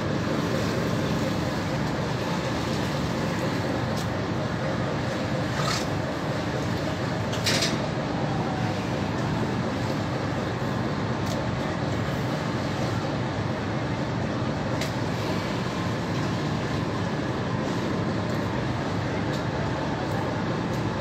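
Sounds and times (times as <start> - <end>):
boat engine and deck machinery drone: 0.0 - 21.0.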